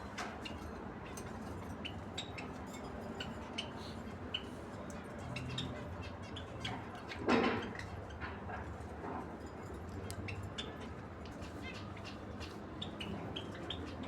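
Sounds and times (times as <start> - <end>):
birds chirping and clicking: 0.0 - 14.0
low background hum: 0.0 - 14.0.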